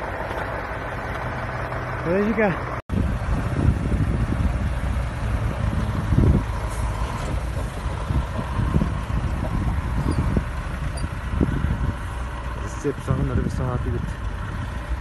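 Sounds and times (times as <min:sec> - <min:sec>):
truck diesel engines under load: 0:00.0 - 0:15.0.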